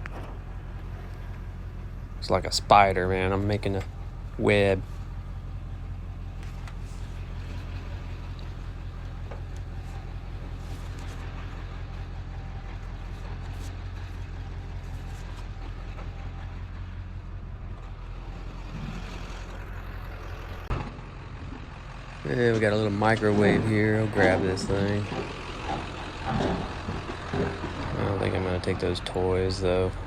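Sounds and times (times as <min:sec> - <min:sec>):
truck engine droning: 0:00.0 - 0:30.0.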